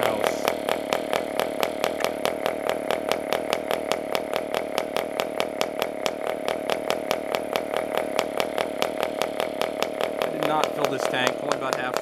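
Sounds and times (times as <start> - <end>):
model diesel engine running: 0.0 - 12.0.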